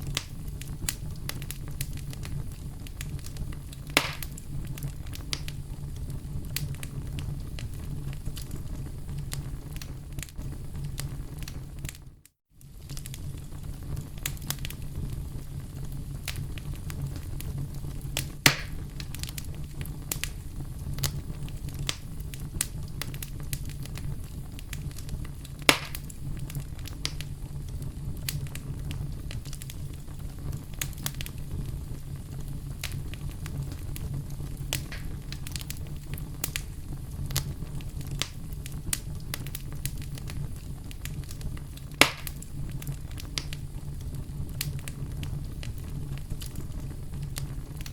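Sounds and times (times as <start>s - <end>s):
campfire crackling: 0.0s - 47.9s
loud fire pops: 0.0s - 47.9s
low fire rumble: 0.0s - 47.9s.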